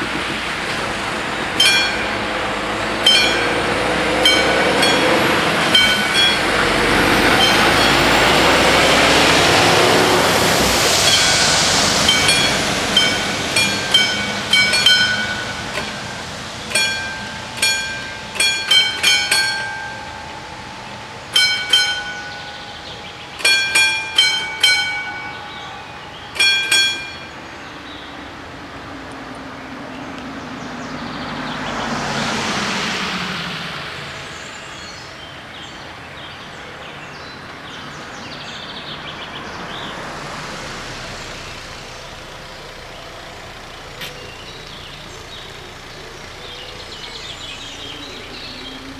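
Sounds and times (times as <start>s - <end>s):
crossing warning bells ringing: 0.0s - 48.9s
train rumbling past: 0.0s - 48.9s.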